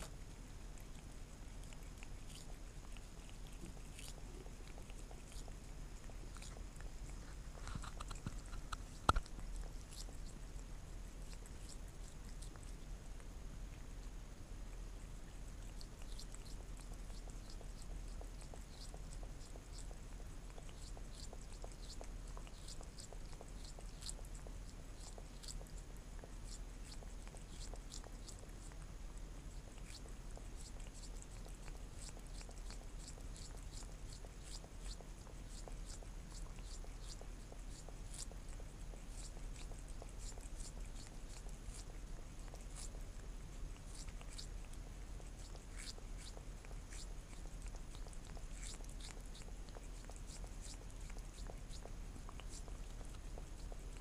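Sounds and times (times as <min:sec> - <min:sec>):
cat licking: 0:00.0 - 0:54.0.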